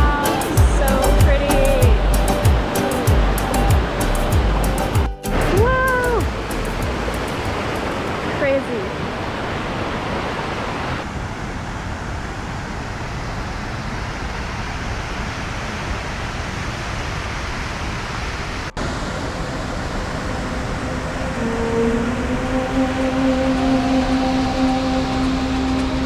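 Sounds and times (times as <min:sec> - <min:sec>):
falling water rushing: 0:00.0 - 0:11.1, 0:13.8 - 0:26.0.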